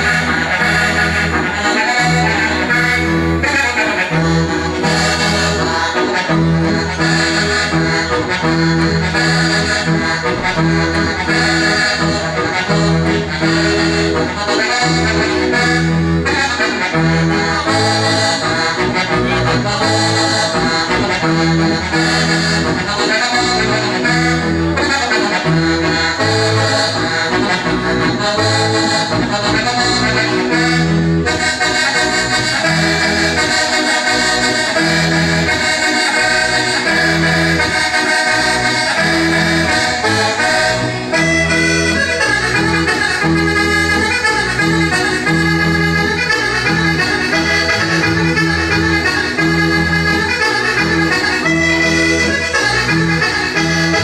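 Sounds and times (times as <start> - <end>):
button accordion dance tune: 0.0 - 54.0.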